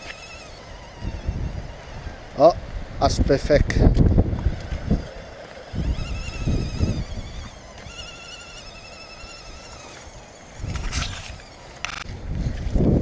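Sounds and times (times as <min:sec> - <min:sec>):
electric motor and gearbox whining: 0:00.0 - 0:13.0
low rumbles: 0:00.0 - 0:13.0.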